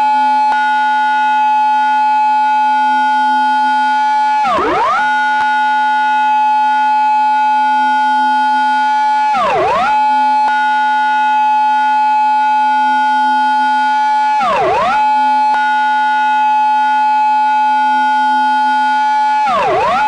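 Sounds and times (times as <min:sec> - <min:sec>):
police car siren: 0:00.0 - 0:20.0.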